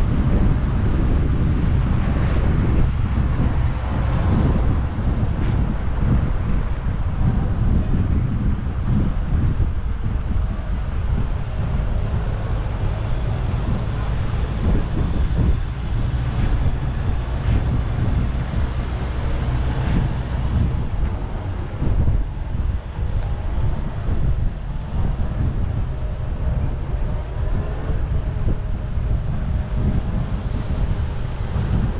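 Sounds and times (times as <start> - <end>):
road traffic: 0.0 - 31.9
wind rumbling on microphone: 0.0 - 31.9.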